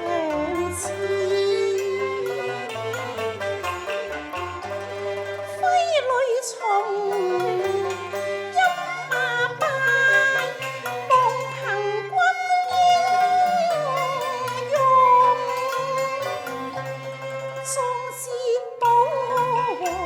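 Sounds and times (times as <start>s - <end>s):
opera accompaniment ensemble: 0.0s - 20.0s.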